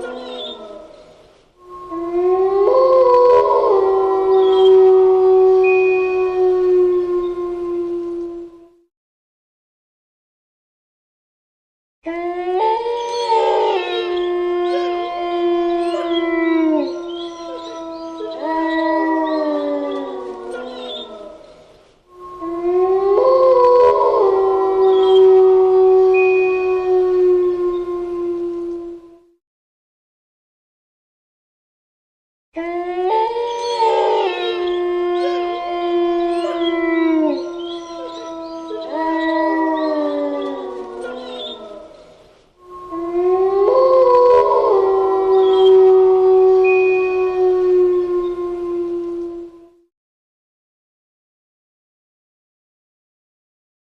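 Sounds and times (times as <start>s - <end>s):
wolves howling: 0.0s - 8.8s, 12.0s - 29.4s, 32.6s - 49.9s.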